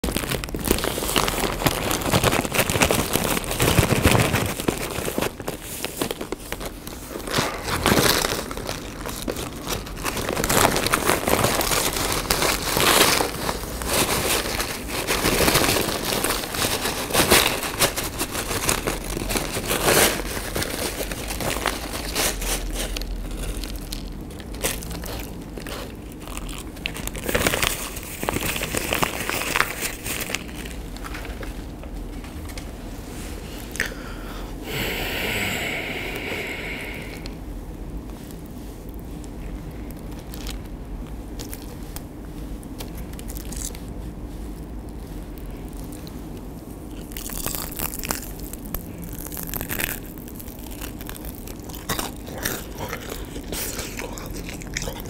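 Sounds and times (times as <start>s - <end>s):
paper packet crinkling: 0.0s - 32.7s, 38.0s - 55.0s.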